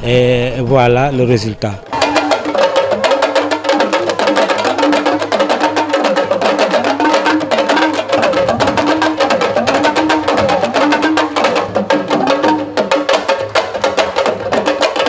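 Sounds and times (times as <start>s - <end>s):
fast dense drumming: 1.8s - 15.0s.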